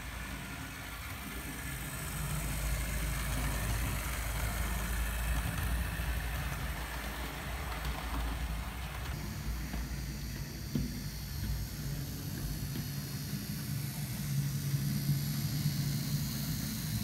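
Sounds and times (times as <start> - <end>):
electric motor hum: 0.0 - 17.0
model train wheels on rails: 0.0 - 17.0.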